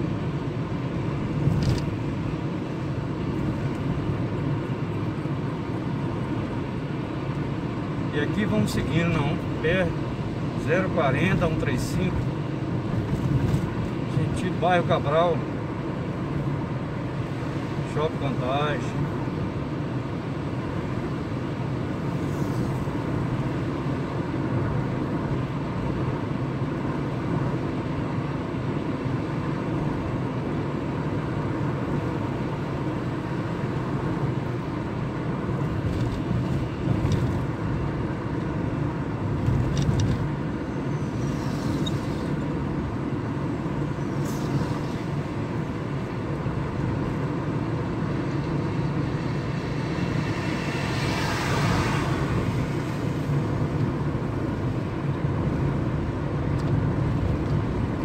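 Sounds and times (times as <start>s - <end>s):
car engine and tyre noise: 0.0s - 58.0s.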